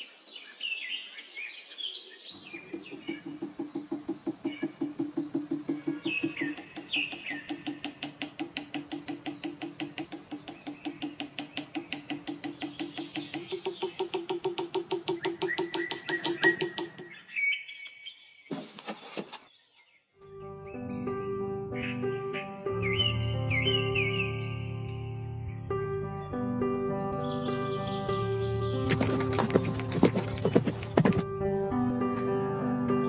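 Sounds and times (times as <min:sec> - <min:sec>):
birds chirping: 0:00.0 - 0:31.2.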